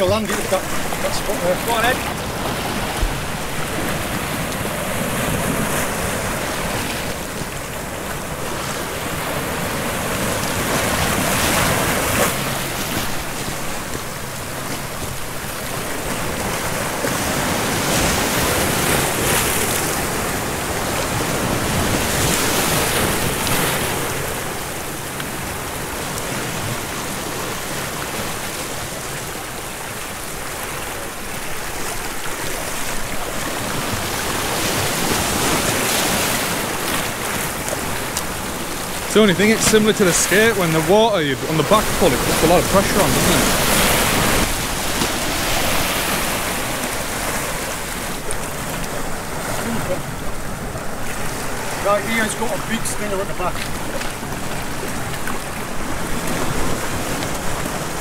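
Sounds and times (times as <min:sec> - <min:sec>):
sea waves breaking over rocks: 0:00.0 - 0:58.0.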